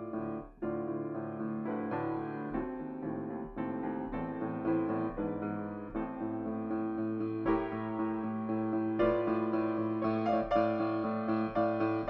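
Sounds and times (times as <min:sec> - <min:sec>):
solo classical piano: 0:00.0 - 0:12.0.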